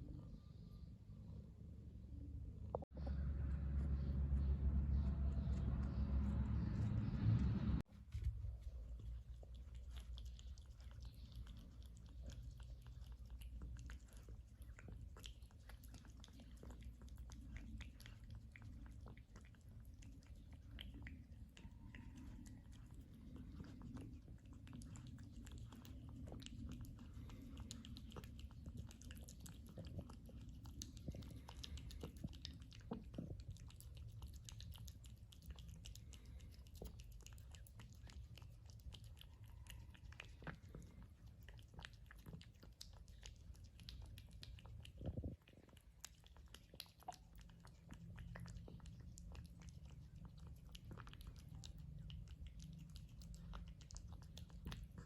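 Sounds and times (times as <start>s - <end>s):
cat chewing wet food: 2.8s - 55.0s.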